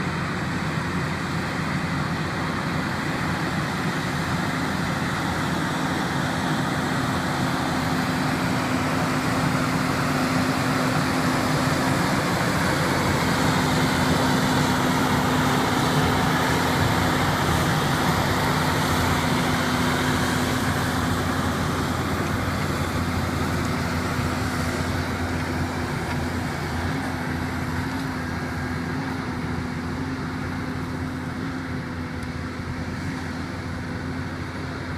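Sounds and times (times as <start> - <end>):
tractor engine under load: 0.0 - 34.9.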